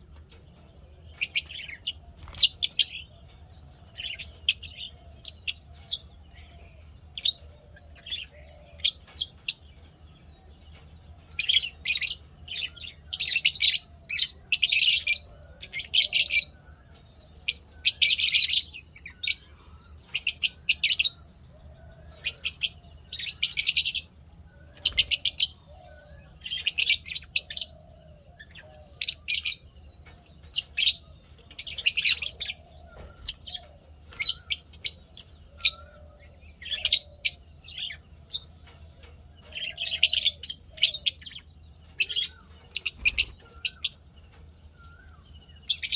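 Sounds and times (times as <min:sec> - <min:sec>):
lovebirds chirping shrilly: 0:01.1 - 0:45.9.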